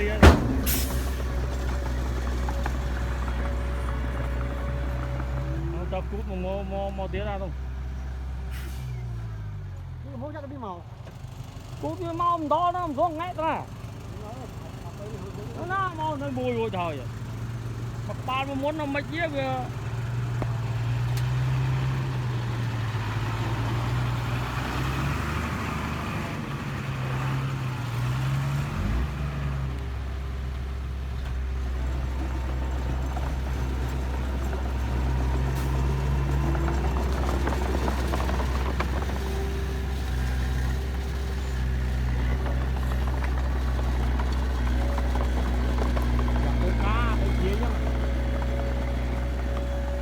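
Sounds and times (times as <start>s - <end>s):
heavy diesel engines running: 0.0s - 50.0s.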